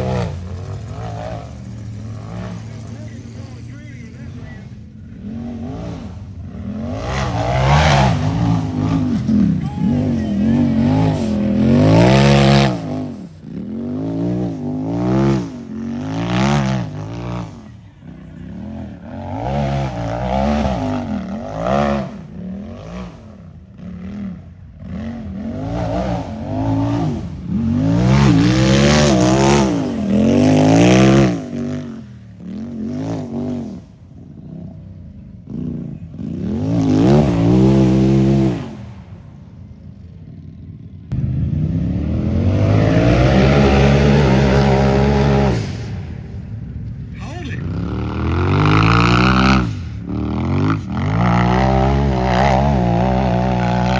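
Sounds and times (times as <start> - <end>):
race vehicle engine revving: 0.0 - 39.2, 41.1 - 53.9.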